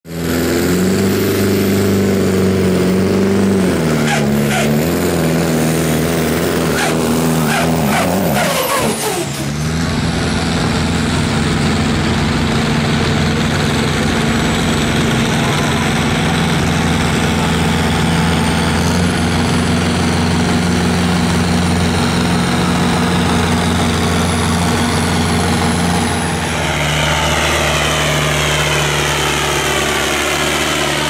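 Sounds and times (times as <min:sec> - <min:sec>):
second tractor engine running: 0:00.1 - 0:31.0
tractor engine running hard: 0:00.1 - 0:31.0.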